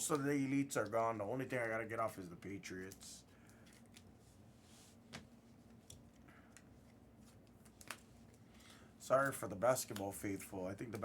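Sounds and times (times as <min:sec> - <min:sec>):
rustling of trading card packs: 0:00.0 - 0:04.3, 0:05.0 - 0:11.0
faint clicks of cards handled: 0:00.1 - 0:01.8, 0:02.4 - 0:04.2, 0:05.0 - 0:11.0.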